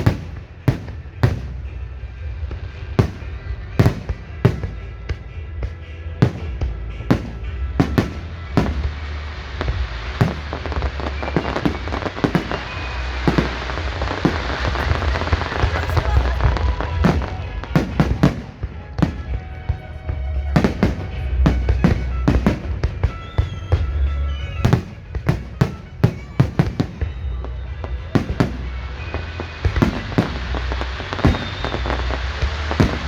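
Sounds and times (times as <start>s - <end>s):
fireworks bursting: 0.0s - 33.0s
fireworks crackling: 0.0s - 33.0s.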